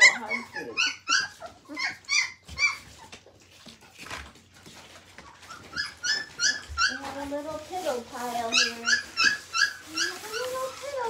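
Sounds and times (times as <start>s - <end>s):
puppies whimpering: 0.0s - 11.0s.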